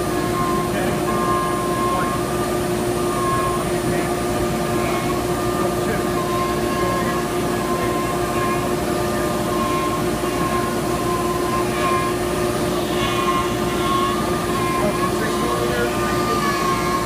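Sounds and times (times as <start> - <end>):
cnc router spindle whine: 0.0 - 17.0
machining noise: 0.0 - 17.0.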